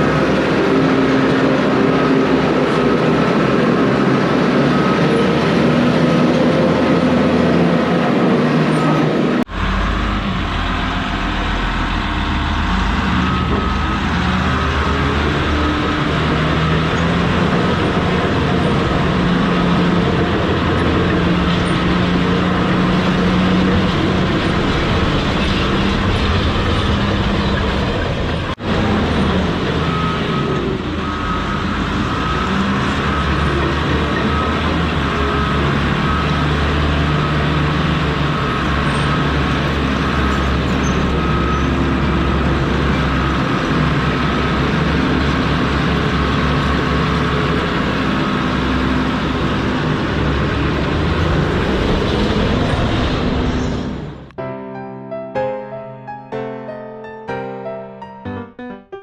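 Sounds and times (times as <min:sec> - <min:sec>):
diesel earthmoving machine running: 0:00.0 - 0:54.4.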